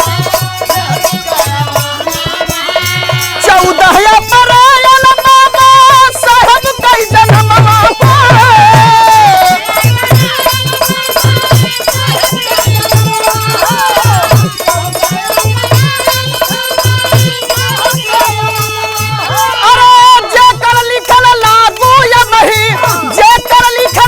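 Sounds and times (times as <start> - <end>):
jingling percussion: 0.0 - 24.0
rhythmic drum beat: 0.0 - 24.0.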